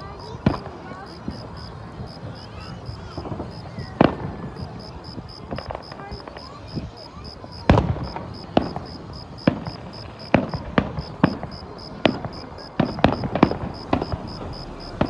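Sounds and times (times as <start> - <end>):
fireworks booming: 0.0 - 15.0.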